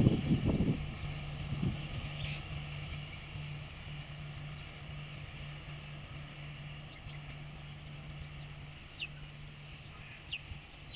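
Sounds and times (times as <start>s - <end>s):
train drone and rumble: 0.0s - 10.9s.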